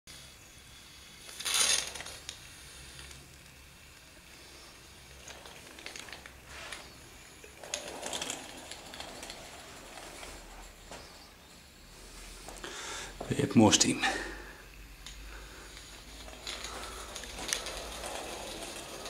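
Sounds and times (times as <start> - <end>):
toy steam engine hissing: 0.1 - 19.0.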